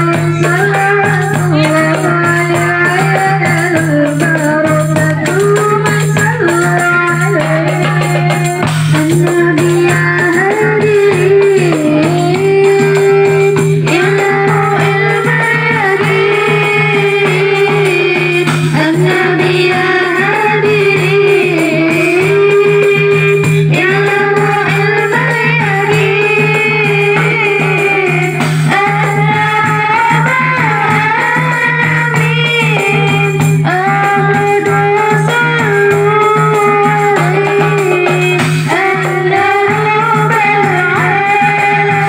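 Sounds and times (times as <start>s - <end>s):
hand drums: 0.0s - 42.0s
jingling tambourine: 0.0s - 42.0s
woman singing: 0.0s - 42.0s.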